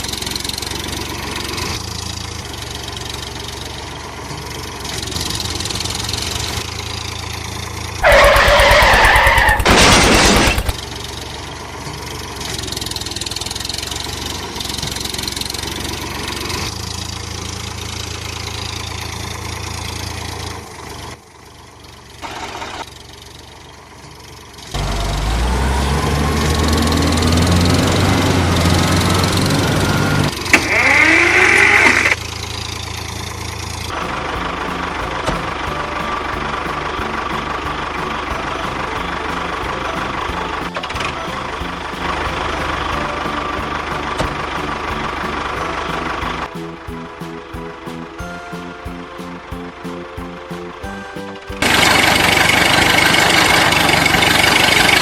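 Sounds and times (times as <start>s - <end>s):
engine running and revving: 0.0s - 49.8s, 50.8s - 55.0s.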